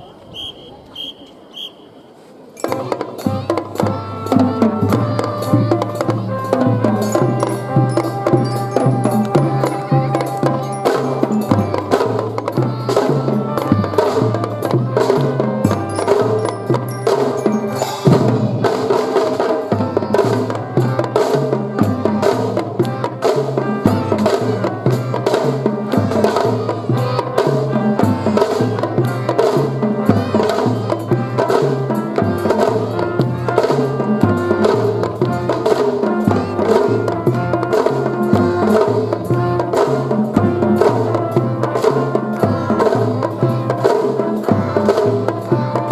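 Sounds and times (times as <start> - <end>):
drums striking a steady beat: 2.6 - 45.9
fife band playing a march: 2.6 - 45.9.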